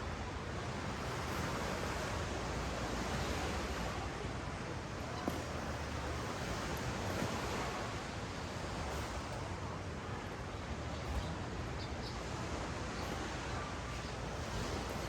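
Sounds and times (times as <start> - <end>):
ocean waves washing ashore: 0.0 - 15.0.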